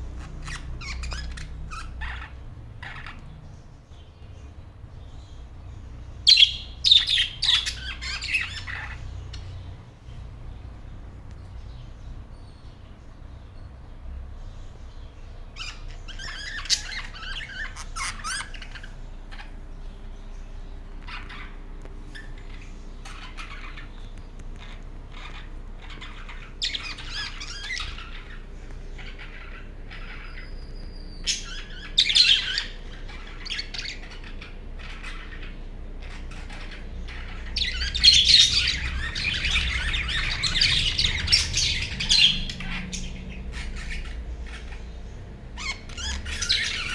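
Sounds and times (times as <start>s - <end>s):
budgerigars chirping: 0.0s - 46.9s.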